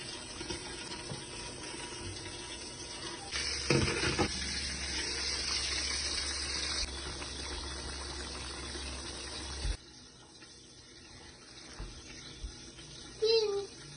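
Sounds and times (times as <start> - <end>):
stew bubbling in a pot: 0.0 - 13.9.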